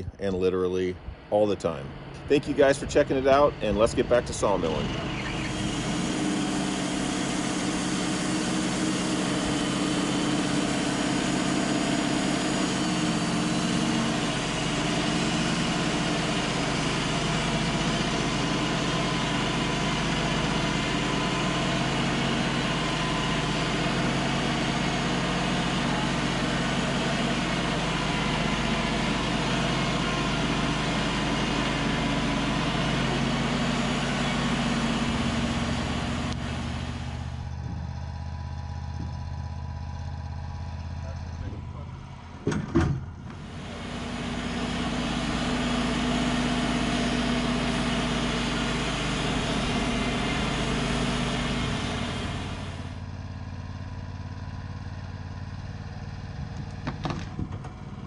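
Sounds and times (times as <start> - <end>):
band sawmill cutting wood: 0.0 - 58.0.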